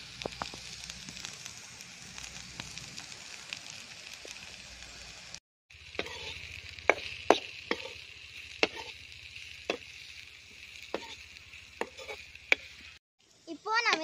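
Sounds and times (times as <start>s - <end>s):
okra sizzling in a pan: 0.0s - 14.0s.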